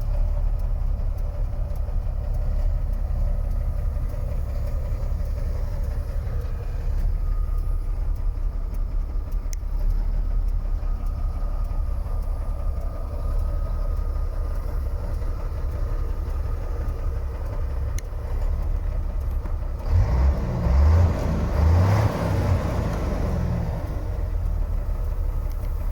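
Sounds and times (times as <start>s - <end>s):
diesel truck engine idling and revving: 0.0s - 25.9s.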